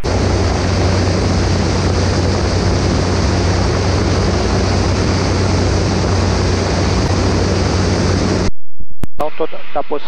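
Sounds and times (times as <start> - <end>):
light aircraft engine drone: 0.0 - 8.5
rush of airflow: 0.0 - 8.5.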